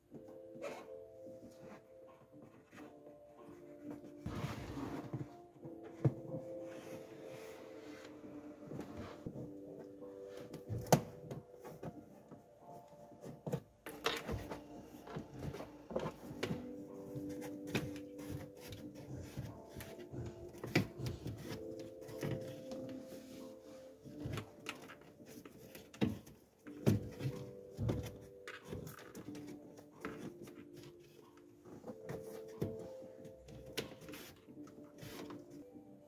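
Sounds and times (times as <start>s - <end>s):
soft background music: 0.0s - 36.0s.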